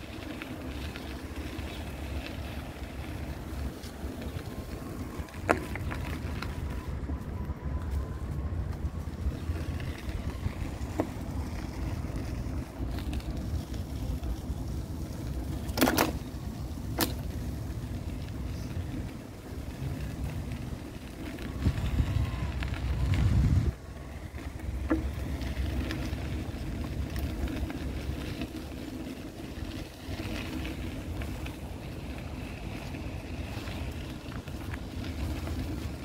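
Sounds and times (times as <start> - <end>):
city street rumble: 0.0 - 36.0.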